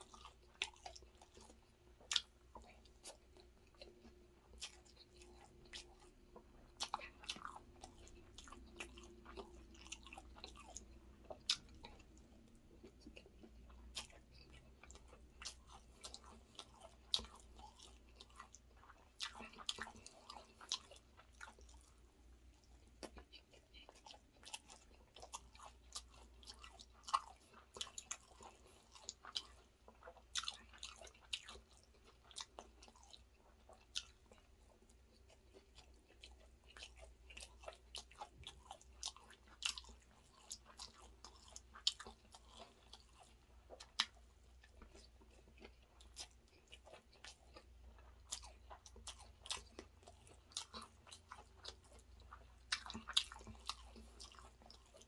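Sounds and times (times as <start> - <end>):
faint low hum: 0.0 - 55.0
person chewing food: 0.0 - 55.0.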